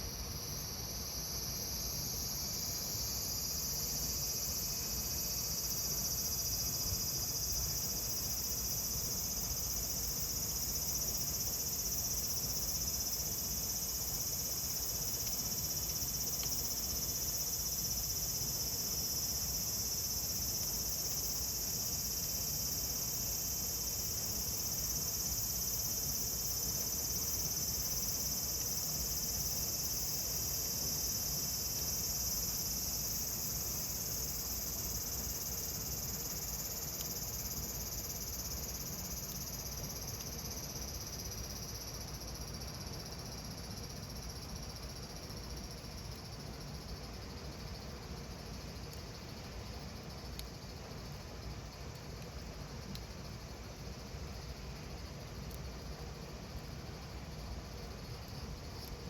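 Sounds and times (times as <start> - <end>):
cicadas singing: 0.0 - 59.0.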